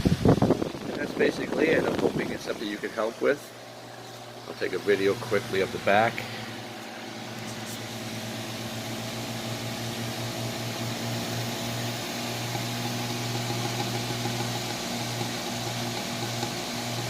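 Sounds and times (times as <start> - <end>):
fan motor hum: 0.0 - 17.0.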